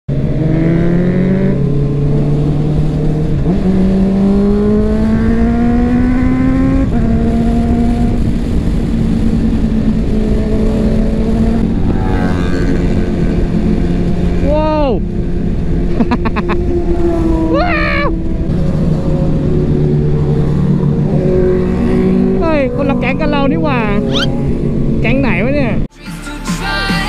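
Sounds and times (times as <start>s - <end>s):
motorcycle engine accelerating: 0.1s - 25.9s
wind rush: 0.1s - 25.9s.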